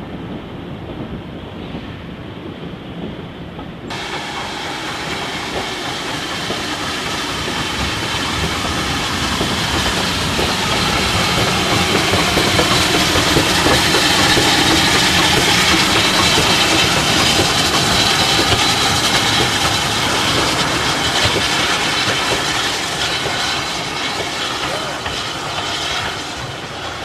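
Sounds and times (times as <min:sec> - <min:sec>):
steam train wheels clattering: 0:03.4 - 0:27.0
steam hiss: 0:03.9 - 0:27.0.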